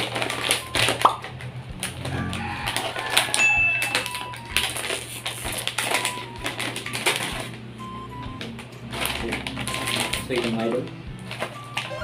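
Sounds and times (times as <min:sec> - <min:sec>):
plastic snack bag crinkling: 0:00.0 - 0:07.6, 0:08.9 - 0:12.0.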